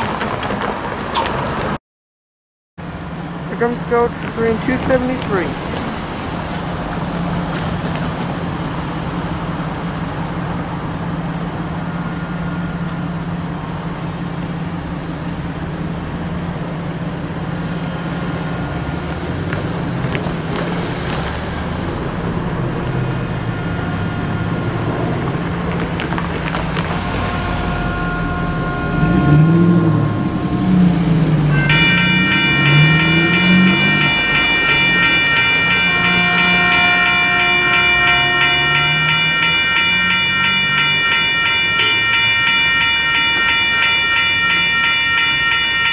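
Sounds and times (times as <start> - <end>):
road traffic noise: 0.0 - 1.8, 2.8 - 45.9.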